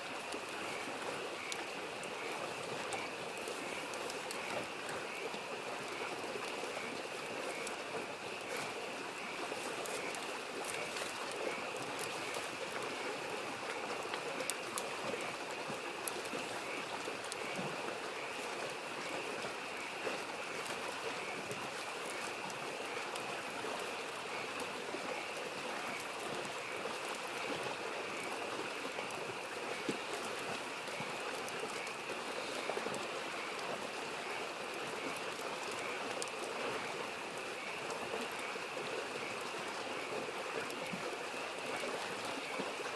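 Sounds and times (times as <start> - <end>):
campfire popping and crackling: 0.0 - 42.9
frogs croaking: 0.0 - 42.9
stream flowing: 0.0 - 42.9.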